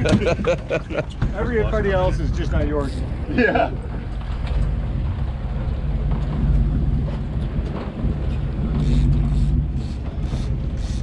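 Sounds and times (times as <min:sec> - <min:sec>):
boat engine low drone: 0:00.0 - 0:11.0.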